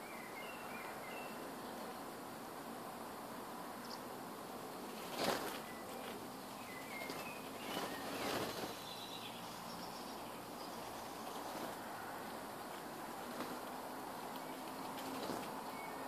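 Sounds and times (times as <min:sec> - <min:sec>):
birds chirping: 0:00.0 - 0:02.2, 0:03.8 - 0:16.0
outdoor background noise: 0:00.0 - 0:16.0.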